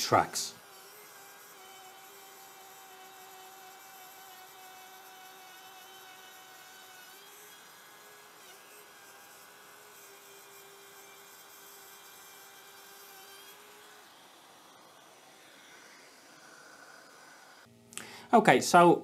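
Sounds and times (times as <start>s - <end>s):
router whine cutting wood: 0.0s - 17.7s.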